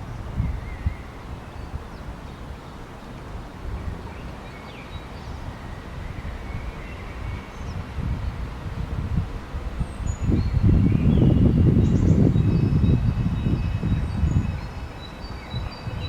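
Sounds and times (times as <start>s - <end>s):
faint bird chirps and whistles: 0.0s - 2.4s, 3.8s - 8.4s, 9.8s - 16.0s
wind buffeting microphone: 0.0s - 16.0s.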